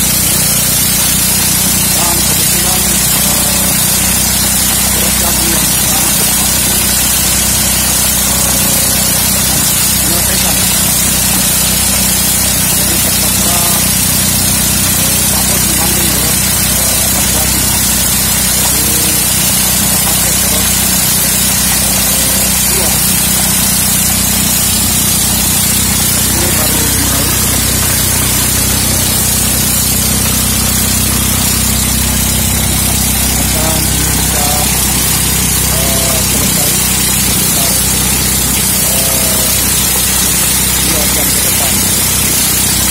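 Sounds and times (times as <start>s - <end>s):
loud hiss of corn threshing: 0.0s - 42.9s
small engine humming: 0.0s - 42.9s.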